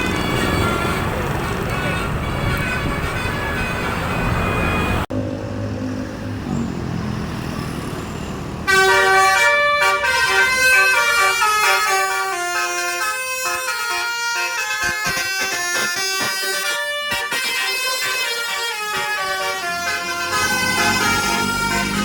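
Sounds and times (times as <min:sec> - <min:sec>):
bus horn playing a rapid tune: 0:00.0 - 0:05.1, 0:08.7 - 0:22.0.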